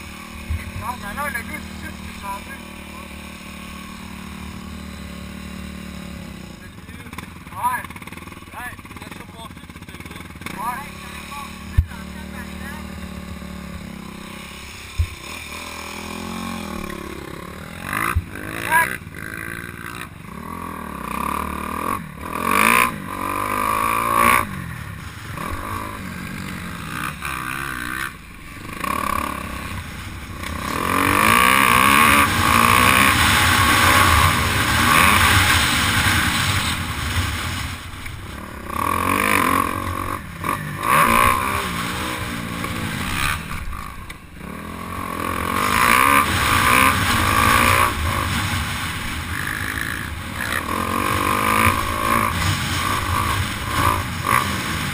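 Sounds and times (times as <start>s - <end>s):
motocross bike engine revving: 0.0s - 54.9s.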